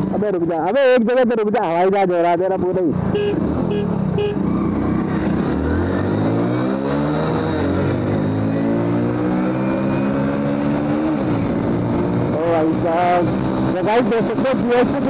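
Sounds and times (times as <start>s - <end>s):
motorcycle engine at full throttle: 0.0s - 15.0s.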